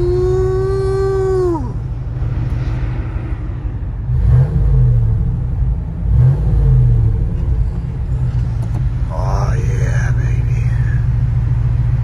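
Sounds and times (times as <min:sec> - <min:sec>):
engine running heard from cab: 0:00.0 - 0:12.0.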